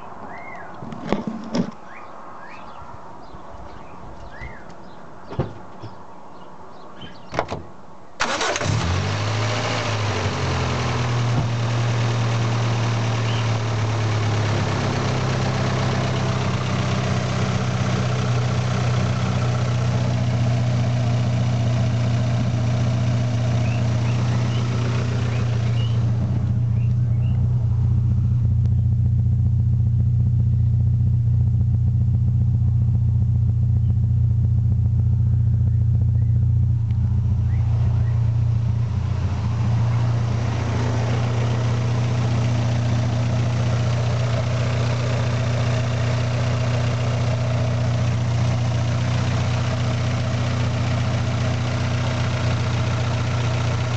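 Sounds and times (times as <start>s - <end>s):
car engine starting and idling: 8.2s - 53.9s.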